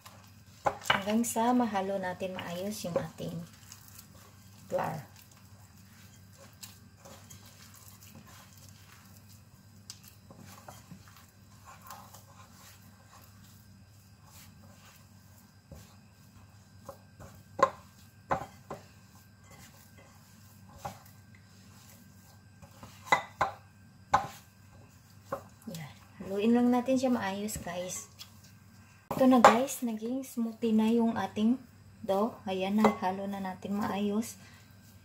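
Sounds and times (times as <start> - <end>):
hands kneading dough: 0.0 - 35.0
steady low hum: 0.0 - 35.0.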